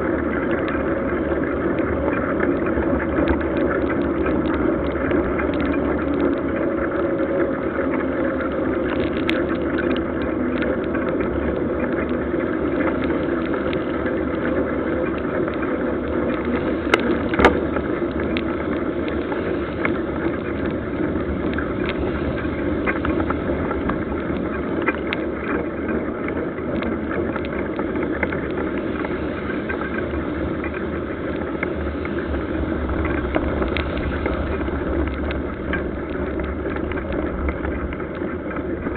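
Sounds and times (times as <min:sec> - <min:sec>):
tyres rolling on wet road: 0:00.0 - 0:38.9
wind: 0:00.0 - 0:38.9.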